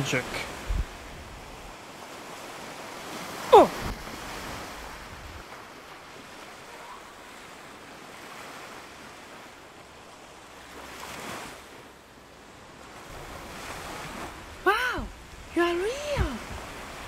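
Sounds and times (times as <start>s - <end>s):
sea waves and surf: 0.0s - 17.0s.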